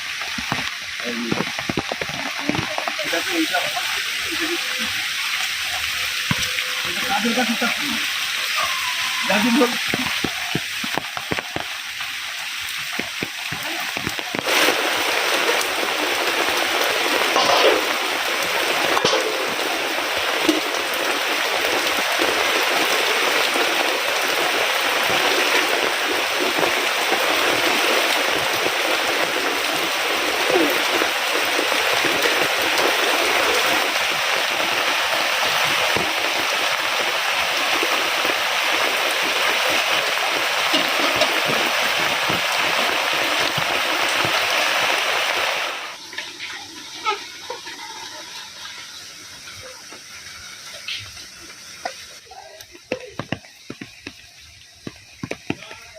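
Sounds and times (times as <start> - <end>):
heavy rain: 0.0 - 55.9
rain splashes: 0.0 - 55.9.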